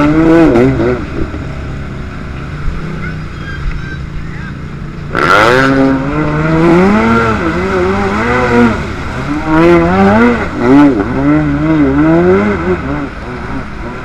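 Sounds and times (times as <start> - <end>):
jet ski engine revving: 0.0 - 14.0.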